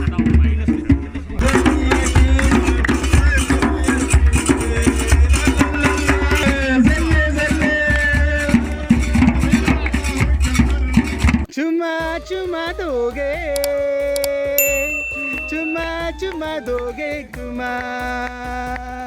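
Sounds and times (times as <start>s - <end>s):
hand drums fast rhythm: 0.0s - 10.8s, 13.2s - 19.0s
voices singing: 0.0s - 19.0s.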